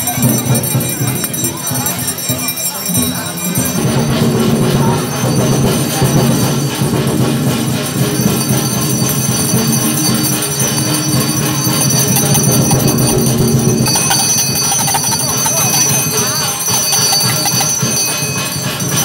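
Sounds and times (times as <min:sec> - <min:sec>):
bells jingling: 0:00.0 - 0:19.0
loud ritual music: 0:00.0 - 0:19.0.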